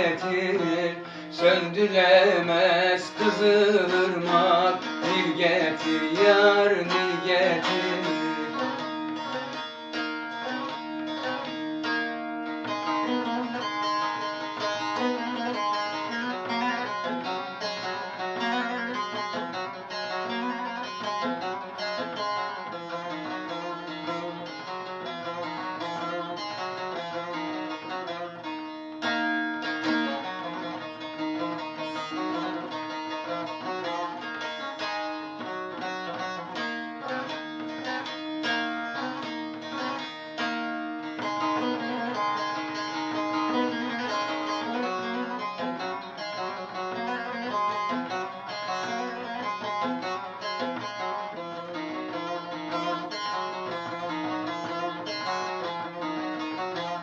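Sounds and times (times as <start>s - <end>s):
plucked lute melody: 0.0s - 57.0s.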